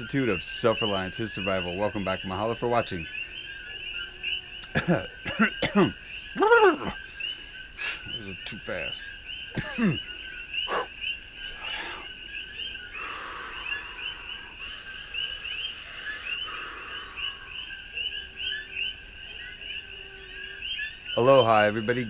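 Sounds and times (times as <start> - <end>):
frogs chirping: 0.0 - 22.0.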